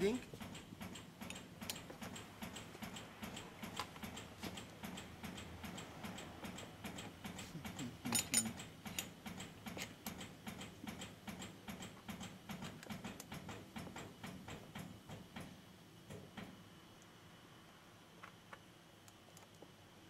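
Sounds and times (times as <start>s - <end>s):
mechanical ticking with thuds: 0.0s - 16.6s.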